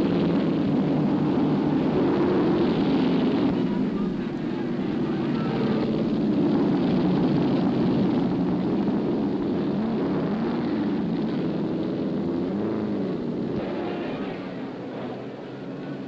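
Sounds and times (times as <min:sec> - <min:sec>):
racing car engines running hard: 0:00.0 - 0:16.0.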